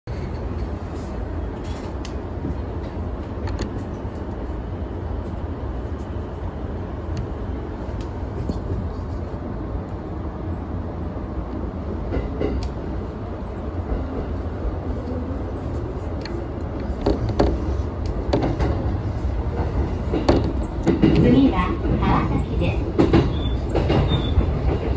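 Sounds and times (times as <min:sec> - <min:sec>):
electric train rumbling: 0:00.0 - 0:24.9.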